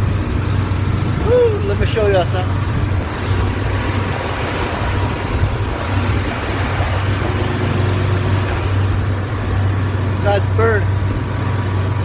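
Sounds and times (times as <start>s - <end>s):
wind rushing: 0.0s - 10.3s
boat engine running: 0.0s - 12.0s
water splashing: 0.0s - 12.0s.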